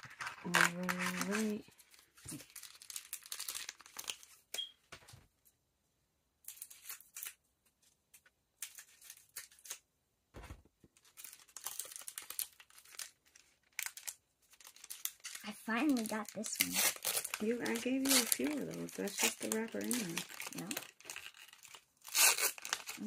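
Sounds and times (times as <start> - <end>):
foil wrappers crinkling and tearing: 0.0 - 4.6, 6.5 - 7.4, 8.6 - 9.8, 11.0 - 23.0.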